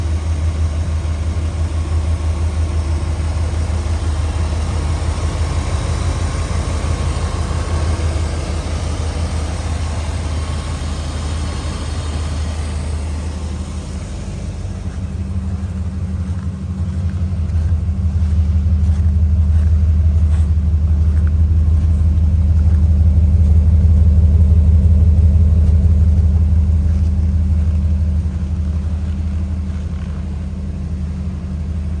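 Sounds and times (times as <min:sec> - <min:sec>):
engine rumbling: 0:00.0 - 0:32.0.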